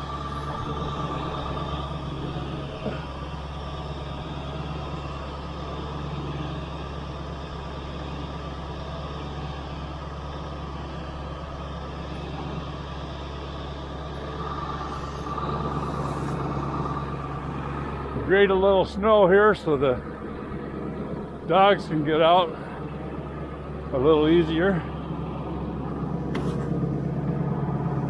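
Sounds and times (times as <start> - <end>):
pickup engine idling: 0.0 - 28.0.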